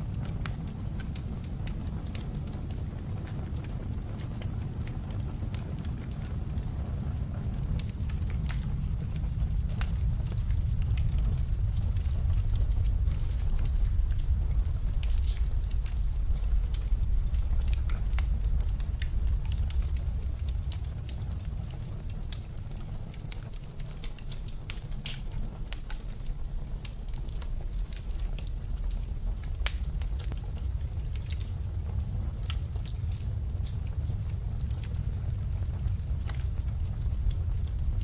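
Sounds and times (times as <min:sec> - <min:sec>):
blizzard wind rumble: 0:00.0 - 0:38.0
wood fire crackling: 0:00.0 - 0:38.0.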